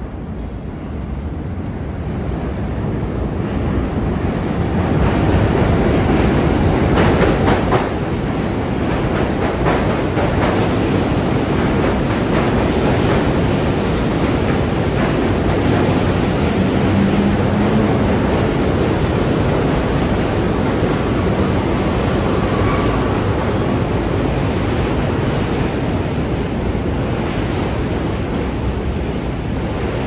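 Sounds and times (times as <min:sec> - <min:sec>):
subway train rumbling past: 0:00.0 - 0:30.0.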